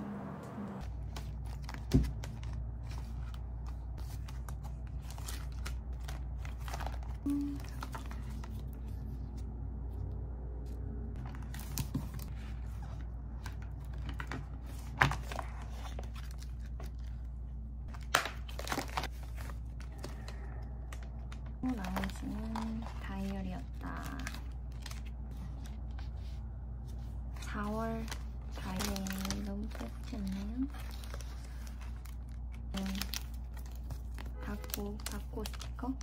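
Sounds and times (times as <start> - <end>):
packaging crinkling and rustling: 0.8 - 9.1, 11.2 - 17.3, 17.9 - 26.4, 27.0 - 36.0.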